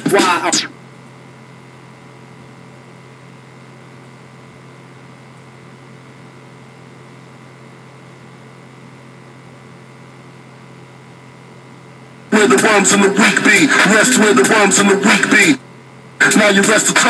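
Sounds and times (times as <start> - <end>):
low electrical hum with hiss: 0.0 - 17.0.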